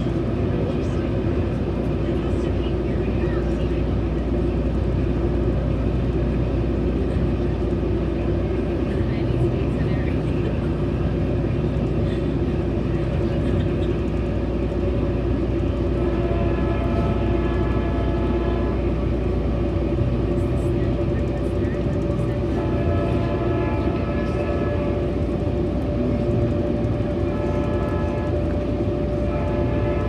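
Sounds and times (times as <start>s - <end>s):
constant hum: 0.0s - 30.0s
train rumbling inside coach: 0.0s - 30.0s.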